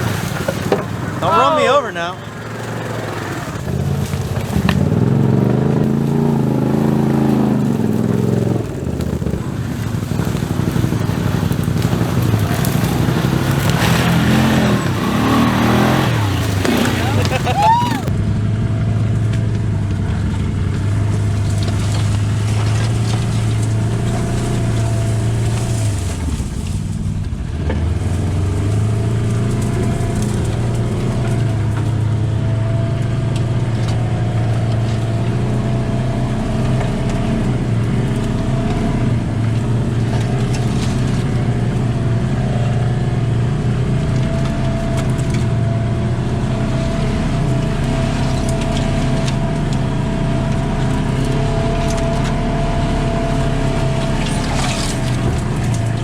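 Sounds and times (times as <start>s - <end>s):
utv engine running: 0.0s - 56.0s.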